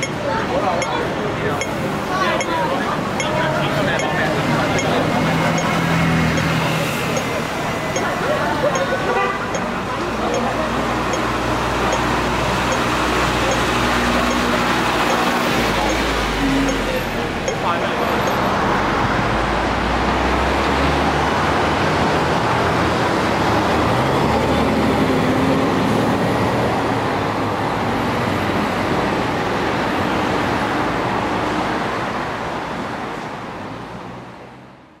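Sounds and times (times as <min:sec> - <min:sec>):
steady traffic rush: 0:00.0 - 0:35.0.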